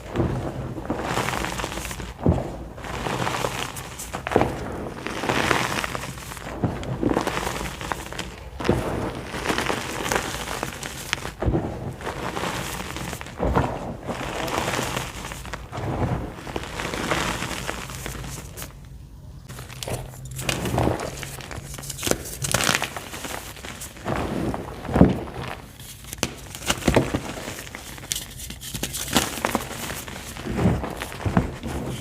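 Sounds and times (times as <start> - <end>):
chalk crushed by hand: 0.9 - 16.0, 16.6 - 18.8, 19.5 - 32.0.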